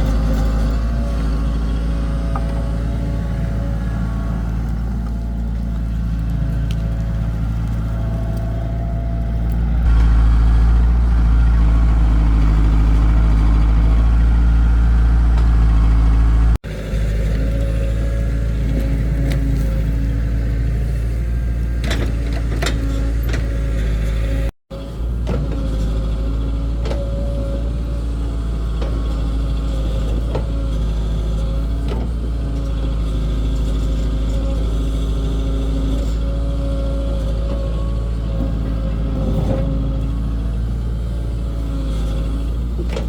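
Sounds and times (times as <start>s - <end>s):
engine humming: 0.0s - 43.0s.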